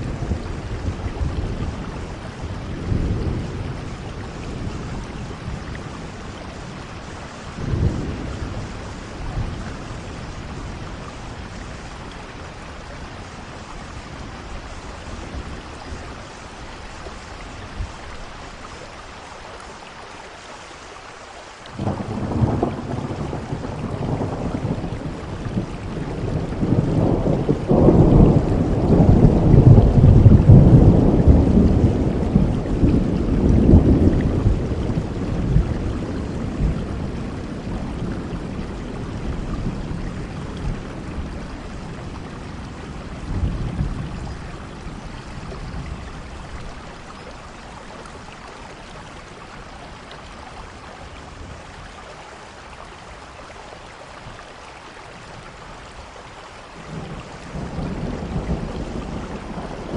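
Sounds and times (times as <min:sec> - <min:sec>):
thunder rumbling: 0:00.0 - 0:18.0, 0:21.8 - 0:50.0, 0:56.8 - 0:59.9
steady rain: 0:00.0 - 0:59.9.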